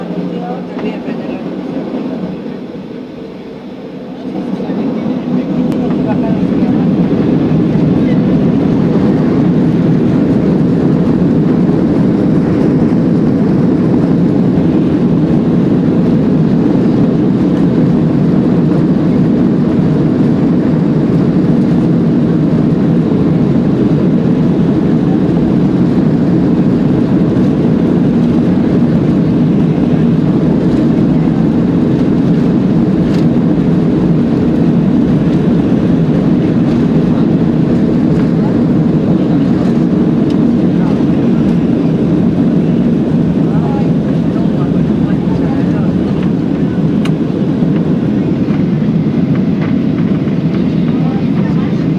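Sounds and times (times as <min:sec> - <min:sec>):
airliner cabin roar: 0:00.0 - 0:51.9.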